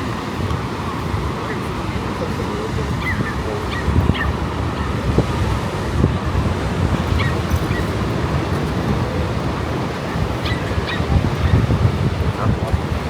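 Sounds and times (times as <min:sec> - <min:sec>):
steady outdoor noise: 0:00.0 - 0:13.0.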